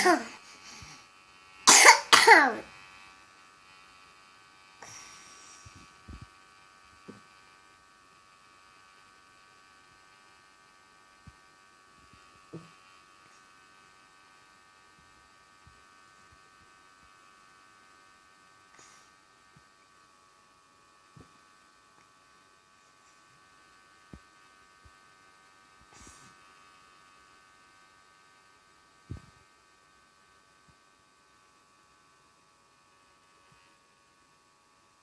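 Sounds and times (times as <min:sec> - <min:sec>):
nebulizer high-pitched hum: 0:00.0 - 0:30.0.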